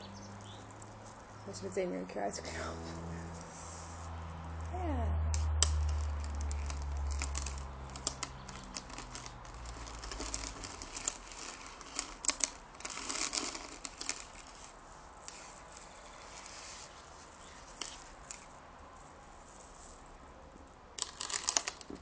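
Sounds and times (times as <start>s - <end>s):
crinkling: 0.0s - 1.7s, 5.4s - 22.0s.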